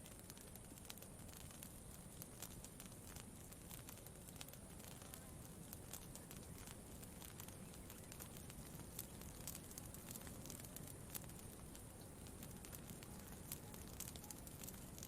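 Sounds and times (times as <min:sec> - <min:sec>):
campfire crackling: 0:00.0 - 0:15.0
low steady background hush: 0:00.0 - 0:15.0.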